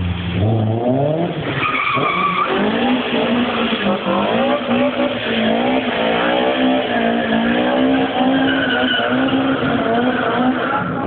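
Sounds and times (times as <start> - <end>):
car engine at high revs: 0.0 - 11.0
tyres skidding: 0.0 - 11.0.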